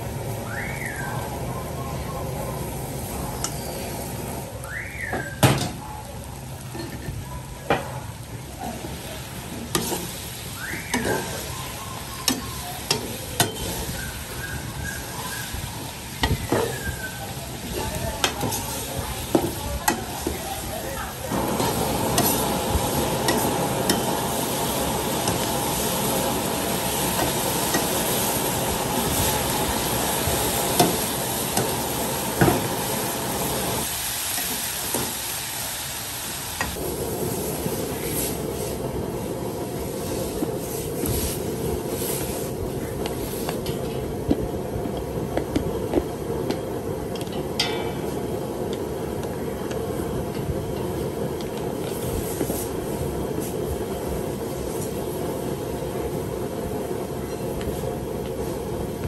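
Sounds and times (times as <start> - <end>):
food sizzling in a wok: 0.0 - 59.0.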